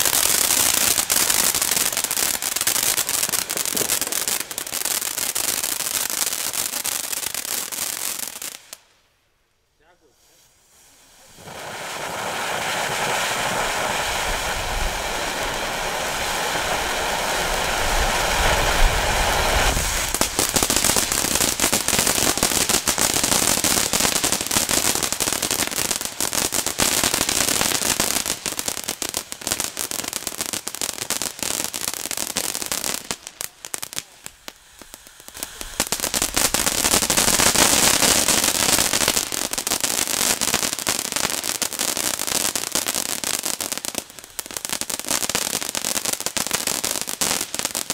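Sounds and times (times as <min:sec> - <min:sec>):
firework fountain hissing: 0:00.0 - 0:08.9, 0:09.9 - 0:47.9
firework rapid crackling: 0:00.0 - 0:08.9, 0:10.1 - 0:47.9.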